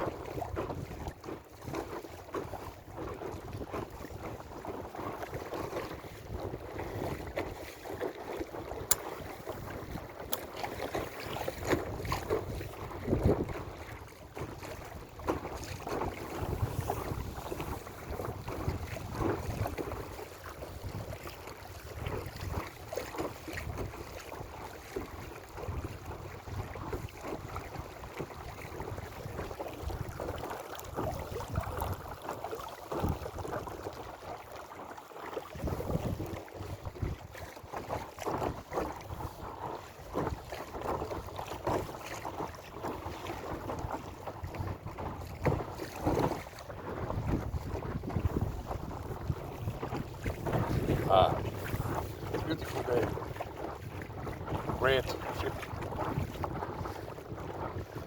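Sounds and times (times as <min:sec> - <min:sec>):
wind buffeting microphone: 0:00.0 - 0:34.4, 0:35.4 - 0:58.0
water splashing against hull: 0:00.0 - 0:58.0.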